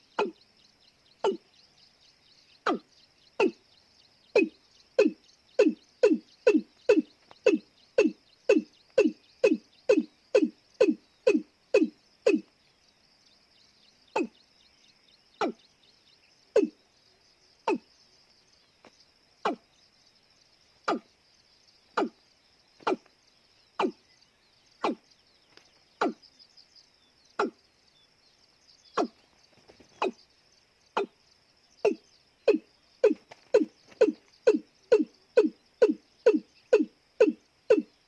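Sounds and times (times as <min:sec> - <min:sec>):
insects buzzing: 0:00.0 - 0:38.0.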